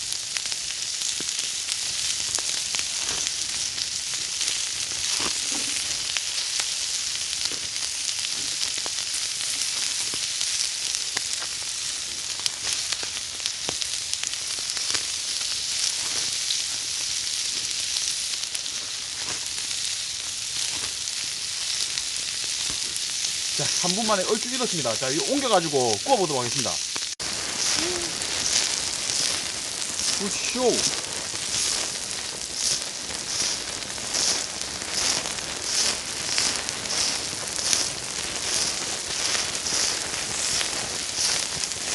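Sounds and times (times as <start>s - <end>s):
crackles and pops: 0.0s - 41.9s
meat sizzling: 0.0s - 41.9s.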